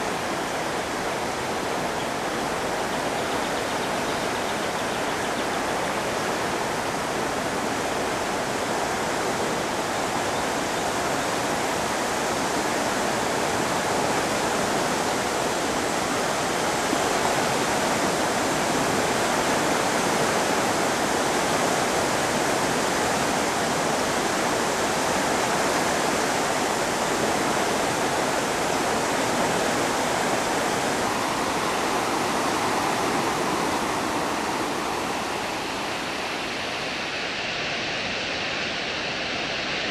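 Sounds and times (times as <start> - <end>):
floodwater rushing and churning: 0.0 - 39.9.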